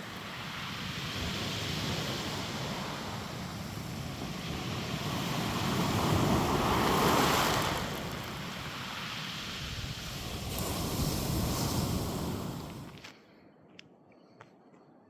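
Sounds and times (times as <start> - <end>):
sea waves washing onto shore: 0.0 - 13.0
wind blowing across microphone: 0.0 - 13.0.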